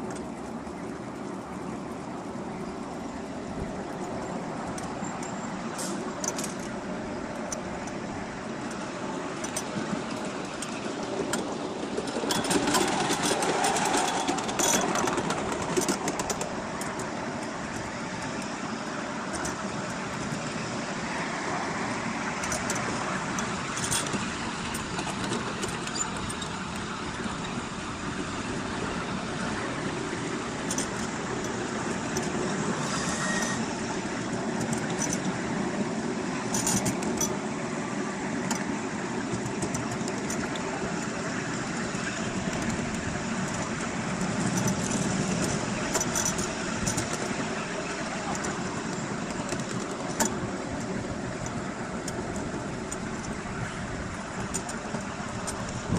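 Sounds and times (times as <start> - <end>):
miniature train running: 0.0 - 55.9.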